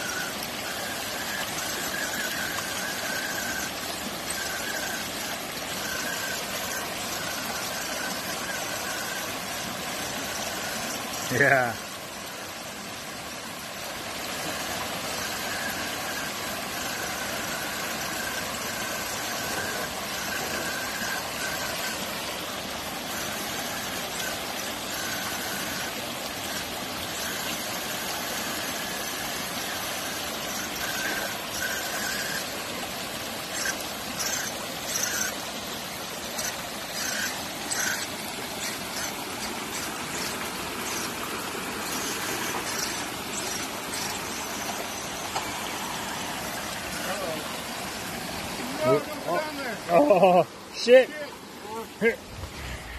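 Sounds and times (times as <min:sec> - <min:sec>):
electric motor whine: 0:00.0 - 0:50.0
water rushing over rocks: 0:00.0 - 0:52.9.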